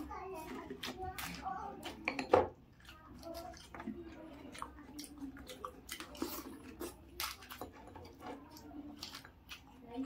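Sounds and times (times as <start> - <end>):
wet chewing with crackles: 0.0 - 10.0.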